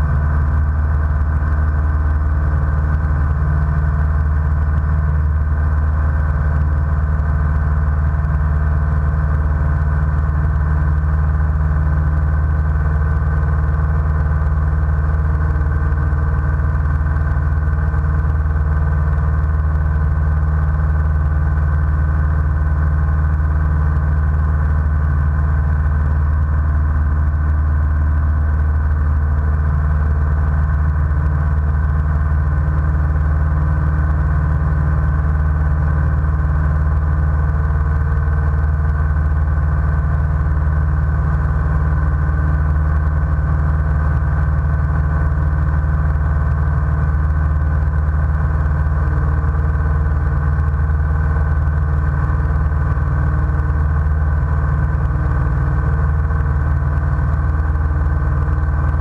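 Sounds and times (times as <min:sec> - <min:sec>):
airplane engine and propeller: 0:00.0 - 0:59.0.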